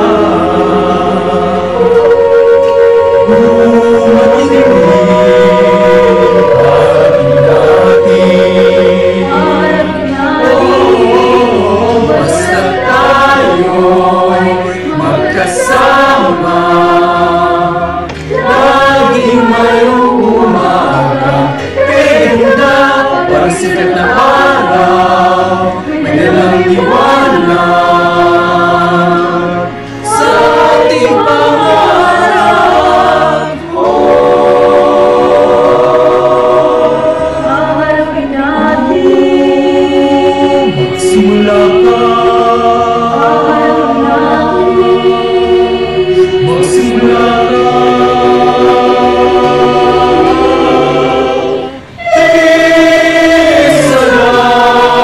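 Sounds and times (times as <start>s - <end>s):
choir singing a slow song: 0.0s - 55.0s.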